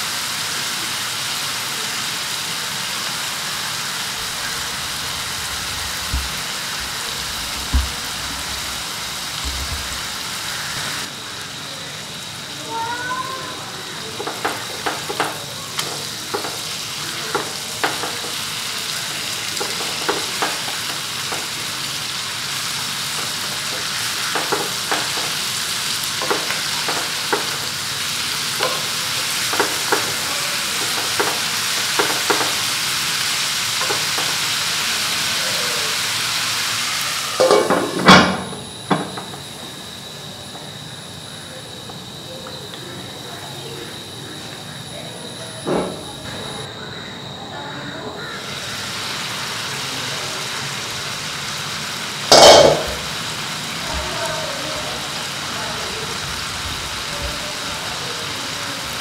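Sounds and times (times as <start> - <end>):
chicken sizzling in oil: 0.0 - 46.0, 48.2 - 59.0.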